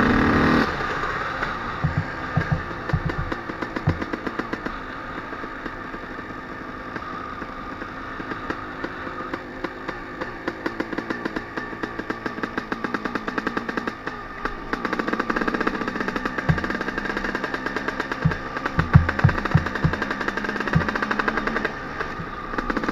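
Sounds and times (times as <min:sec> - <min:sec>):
motocross engine running: 0:00.0 - 0:22.9.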